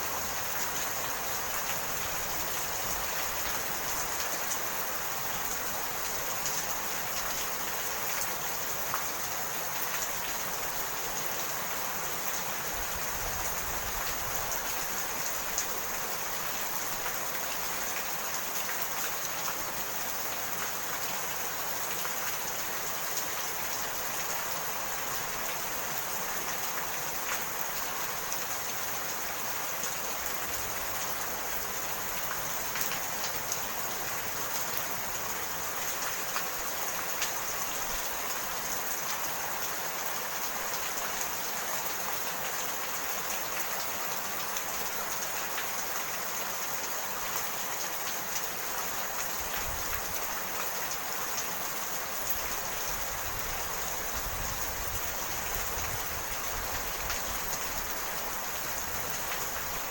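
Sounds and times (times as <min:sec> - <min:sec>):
steady rain hiss: 0:00.0 - 0:59.9
raindrops pattering on surfaces: 0:00.3 - 0:59.9.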